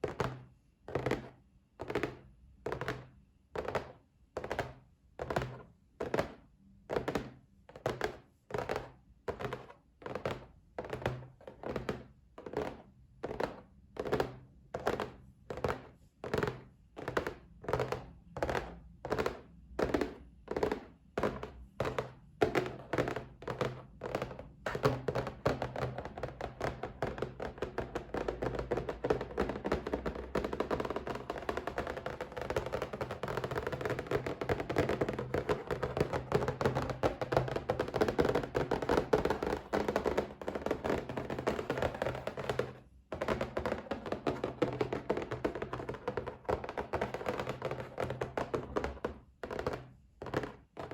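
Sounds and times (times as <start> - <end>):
fingers tapping on a box: 0.0 - 50.9.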